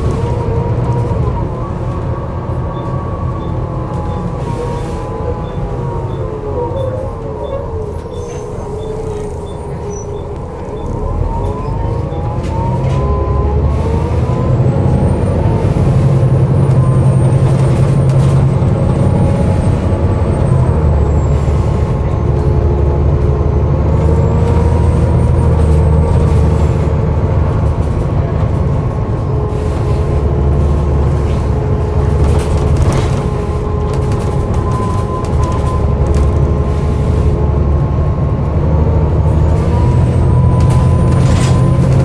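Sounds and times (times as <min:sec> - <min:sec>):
bus diesel engine rumble: 0:00.0 - 0:42.0
whining groaning tones: 0:00.0 - 0:42.0.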